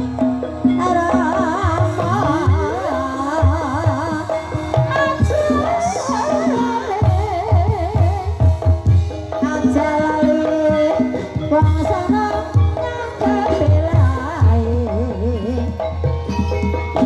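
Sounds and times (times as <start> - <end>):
wavering vibrato melody: 0.0 - 8.3, 9.4 - 17.0
held metallic notes: 0.0 - 17.0.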